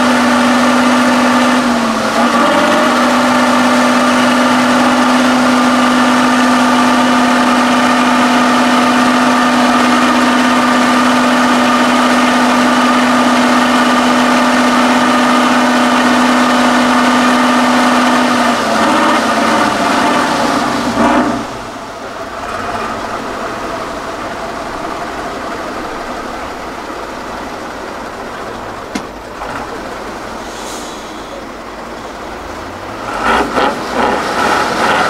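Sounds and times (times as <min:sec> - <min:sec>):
truck diesel engine whining: 0:00.0 - 0:35.0.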